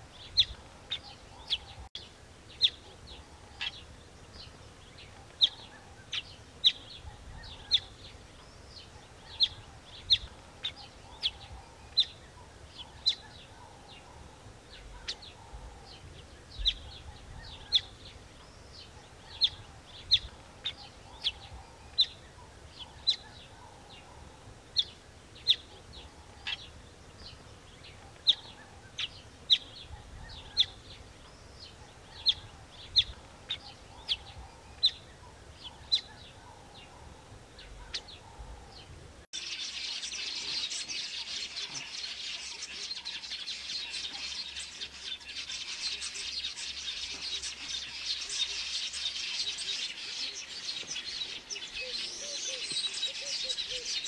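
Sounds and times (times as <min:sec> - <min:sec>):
faint outdoor background: 0:00.0 - 0:54.0
small bird chirping: 0:00.1 - 0:54.0.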